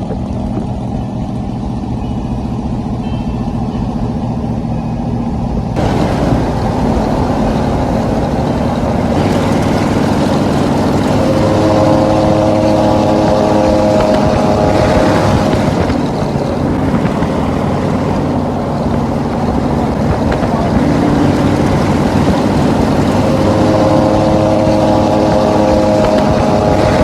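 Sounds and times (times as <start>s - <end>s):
rushing road noise: 0.0s - 27.0s
truck exhaust humming: 0.0s - 27.0s.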